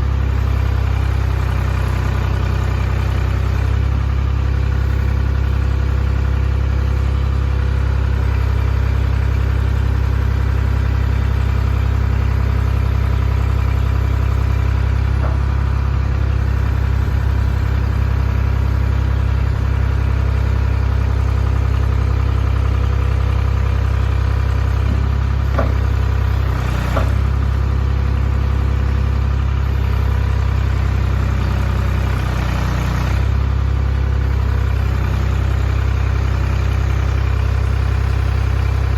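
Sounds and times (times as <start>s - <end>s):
backhoe engine idling: 0.0s - 38.9s.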